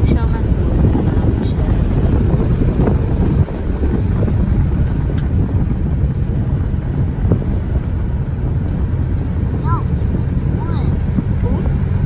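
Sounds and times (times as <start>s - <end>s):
steady low rumbling: 0.0s - 12.0s.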